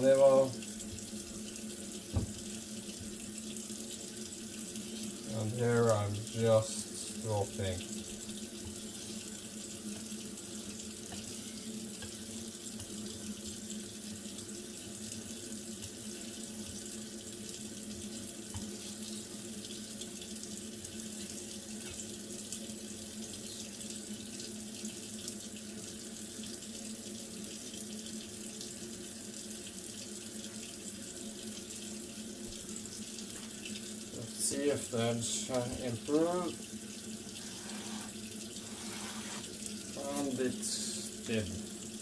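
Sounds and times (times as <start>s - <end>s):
water running from a tap: 0.0s - 42.0s.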